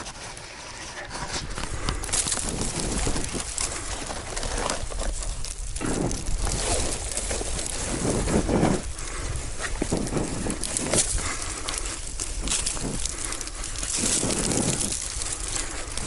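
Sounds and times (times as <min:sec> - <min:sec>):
rustling from climbing: 0:00.0 - 0:16.0
person breathing heavily: 0:00.9 - 0:16.0.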